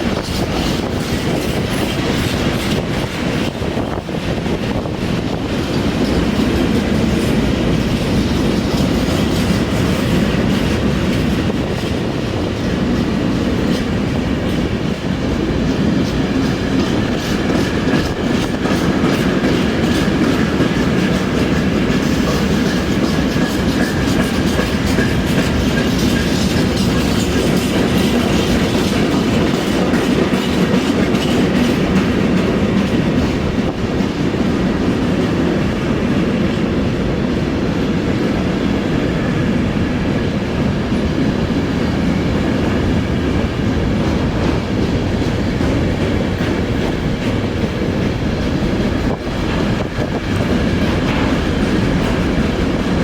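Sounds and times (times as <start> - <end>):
wheels clacking over rail joints: 0.0 - 36.4, 40.2 - 53.0
train rumbling on rails: 0.0 - 53.0.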